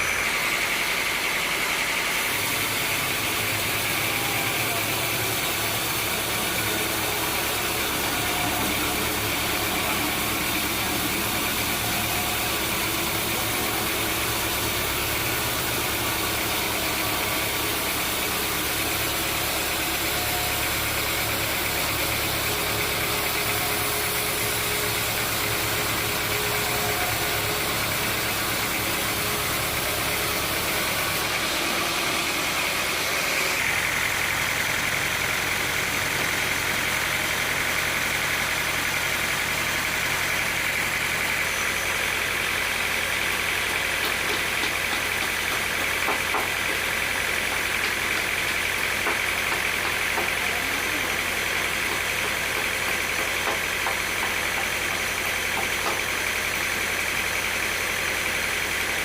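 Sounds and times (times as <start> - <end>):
sawmill machinery hum: 0.0 - 59.0.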